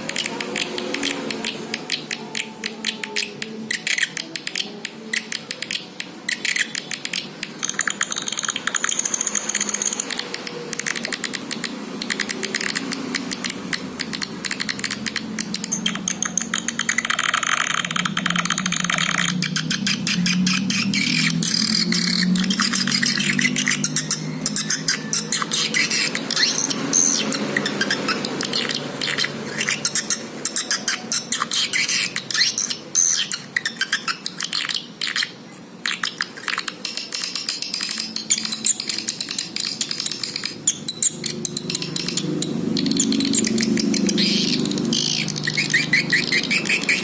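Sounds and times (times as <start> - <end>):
birds chattering and chirping: 0.0 - 47.0.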